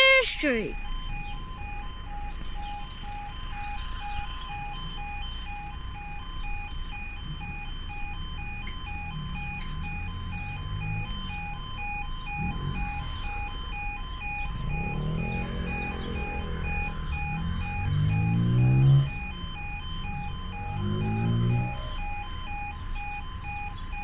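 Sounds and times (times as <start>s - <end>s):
two-tone electronic alarm: 0.0s - 24.0s.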